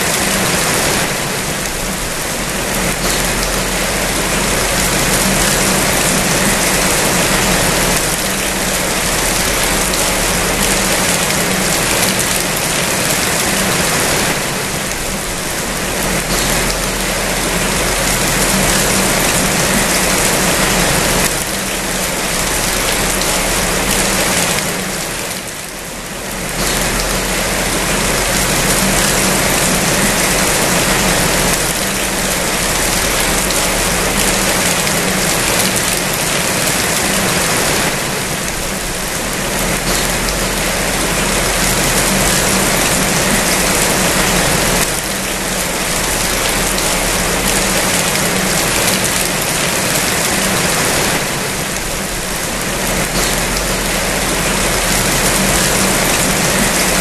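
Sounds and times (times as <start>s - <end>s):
heavy rainfall hiss: 0.0s - 57.0s.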